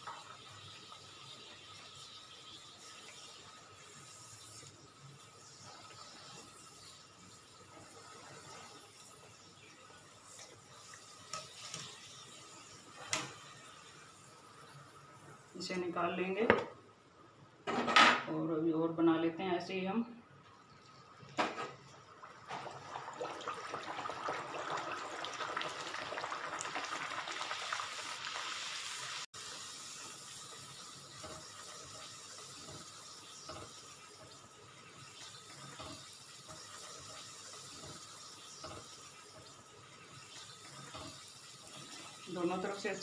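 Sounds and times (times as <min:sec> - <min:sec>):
dough deep-frying in oil: 0:00.0 - 0:16.2, 0:20.4 - 0:43.0.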